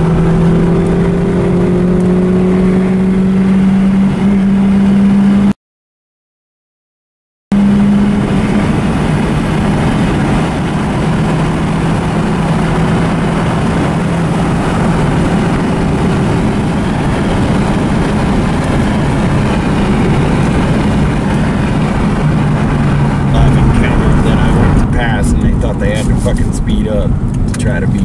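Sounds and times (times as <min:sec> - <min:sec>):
car engine drone: 0:00.0 - 0:05.5, 0:07.5 - 0:28.0
road and wind noise: 0:00.0 - 0:05.5, 0:07.5 - 0:28.0.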